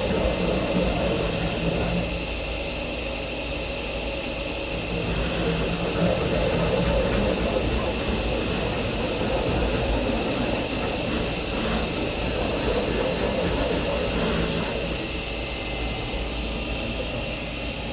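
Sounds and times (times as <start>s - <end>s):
milling machine spindle whine: 0.0s - 17.9s.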